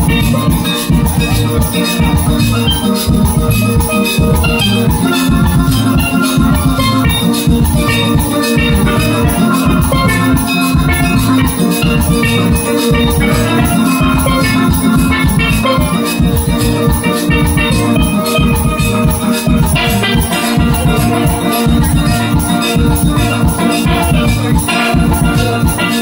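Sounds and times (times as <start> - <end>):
steelband playing: 0.0 - 26.0.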